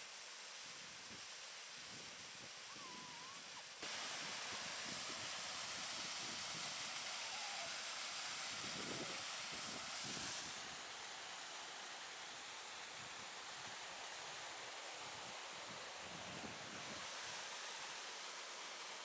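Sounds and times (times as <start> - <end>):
waterfall splashing into pool: 0.0 - 19.0.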